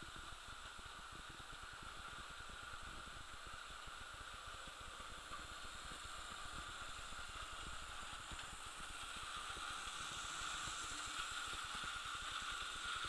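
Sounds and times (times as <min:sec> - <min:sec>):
model train motor whirring: 0:00.0 - 0:13.0.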